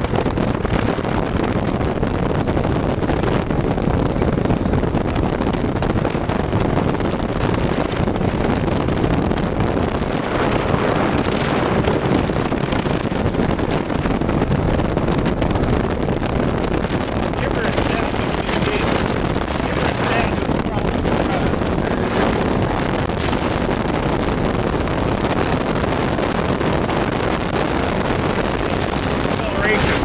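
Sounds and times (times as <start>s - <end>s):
off-road vehicle engine running: 0.0s - 30.0s
wind buffeting microphone: 0.0s - 30.0s.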